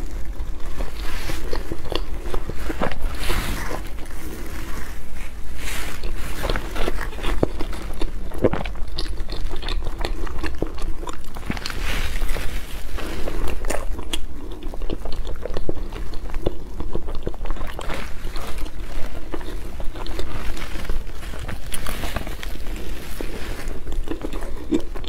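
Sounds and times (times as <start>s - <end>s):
wet chewing mouth sounds: 0.0s - 25.0s.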